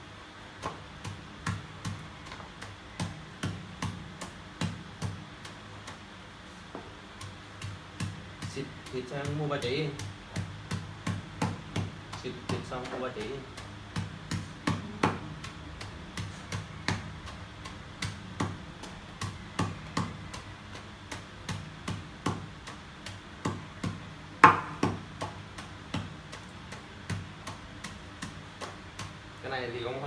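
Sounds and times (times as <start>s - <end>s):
wooden pestle pounding in mortar: 0.6s - 6.0s, 7.2s - 30.0s.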